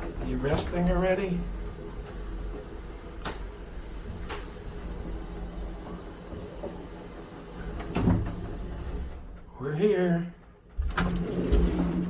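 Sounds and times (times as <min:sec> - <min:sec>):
elevator rumble and hum: 0:00.0 - 0:12.0.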